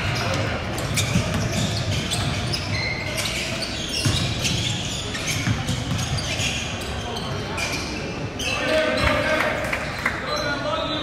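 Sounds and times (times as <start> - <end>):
sneaker squeaks: 0.0 - 9.4.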